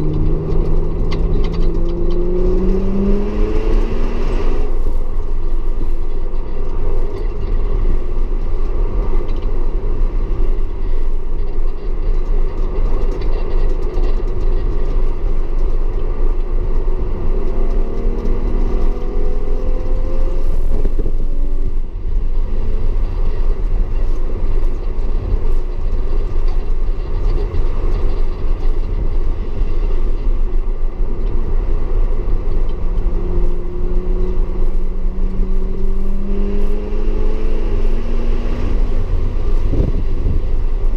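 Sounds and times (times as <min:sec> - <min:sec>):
car engine accelerating: 0:00.0 - 0:40.9
tyre and road noise: 0:00.0 - 0:40.9.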